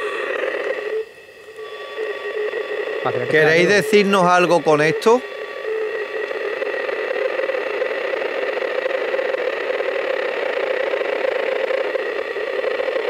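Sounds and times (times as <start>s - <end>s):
radio scanner droning hum: 0.0s - 13.0s
static hiss: 0.0s - 13.0s.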